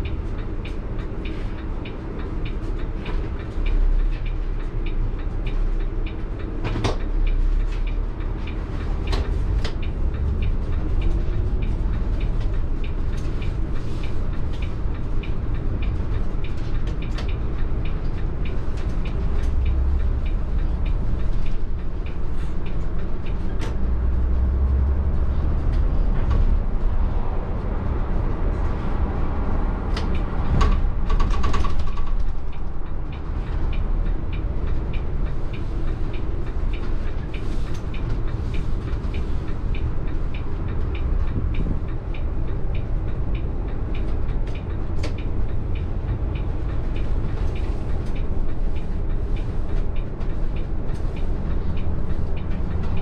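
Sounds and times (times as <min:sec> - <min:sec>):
light evenly spaced ticks: 0:00.0 - 0:28.0, 0:31.9 - 0:53.0
coach engine and road rumble: 0:00.0 - 0:53.0.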